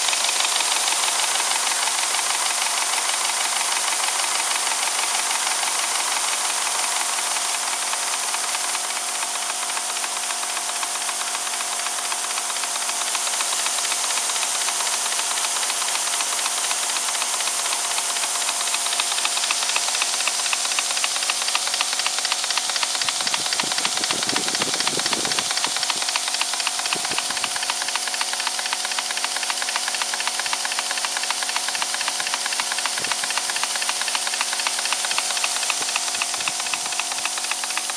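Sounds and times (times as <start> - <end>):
model steam engine chuffing: 0.0 - 37.9.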